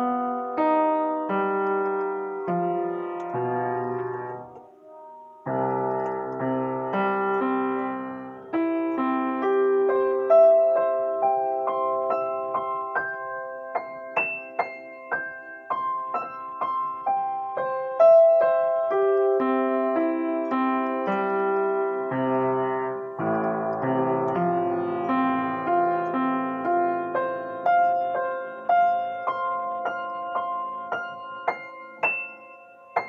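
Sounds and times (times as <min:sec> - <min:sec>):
slow piano notes and chords: 0:00.0 - 0:33.0.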